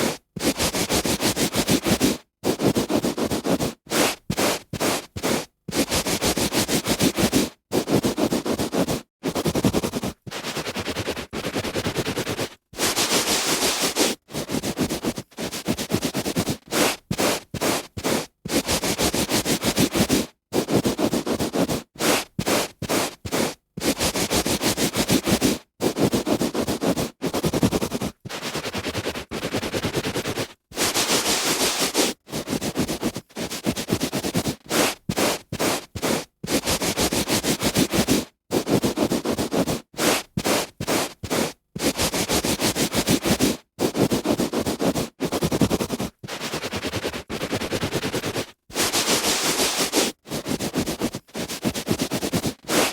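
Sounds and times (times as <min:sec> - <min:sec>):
hand rubbing on carpet: 0:00.0 - 0:52.9.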